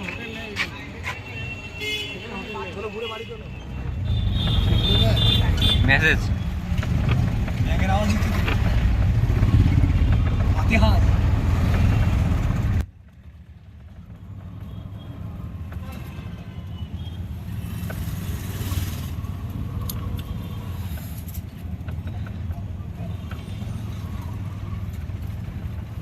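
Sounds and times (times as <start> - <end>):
road vehicle rumbling: 0.0 - 26.0.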